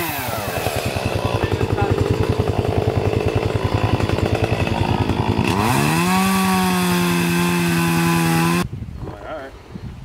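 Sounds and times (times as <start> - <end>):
chainsaw idling and revving: 0.0 - 8.6.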